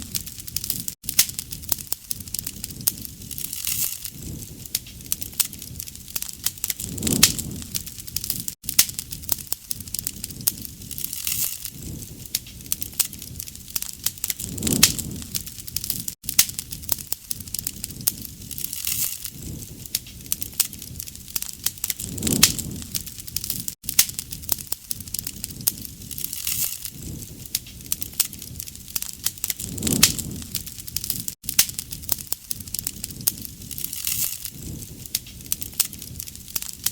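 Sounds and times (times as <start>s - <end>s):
fire crackling and popping: 0.0s - 36.9s
low rush of flame: 0.0s - 36.9s.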